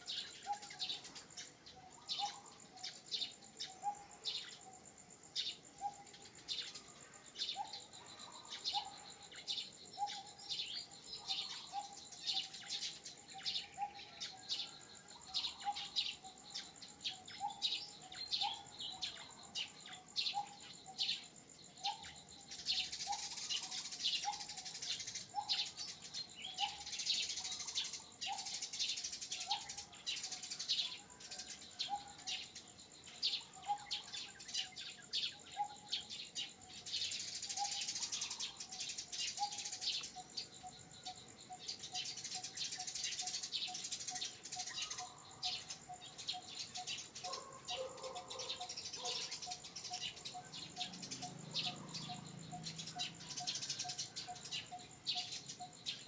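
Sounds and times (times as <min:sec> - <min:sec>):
birds chirping: 0:00.0 - 0:56.0
high insect whine: 0:00.0 - 0:56.0
insect buzz: 0:00.0 - 0:56.0.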